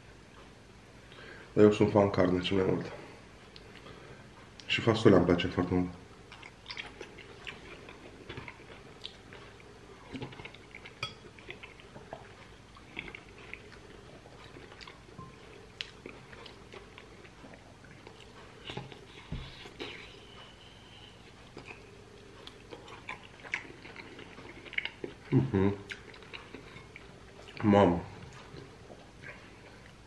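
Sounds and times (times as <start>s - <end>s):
man chewing food: 3.2s - 4.7s, 6.0s - 30.0s.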